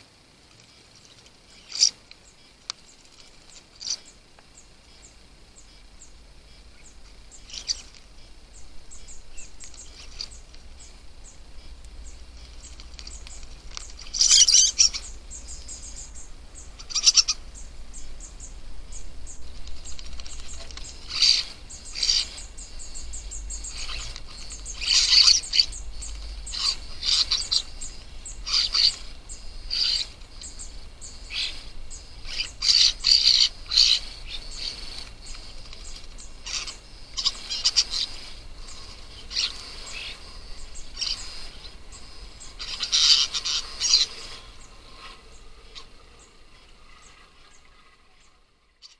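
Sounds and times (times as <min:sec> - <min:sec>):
starlings calling: 0:00.0 - 0:48.9
birds splashing in water: 0:05.7 - 0:48.9.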